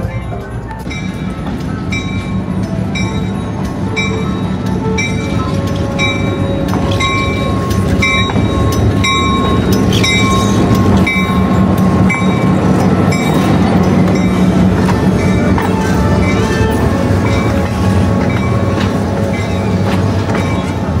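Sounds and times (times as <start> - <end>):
bell ringing: 0.0 - 21.0
diesel locomotive engine droning: 0.0 - 21.0.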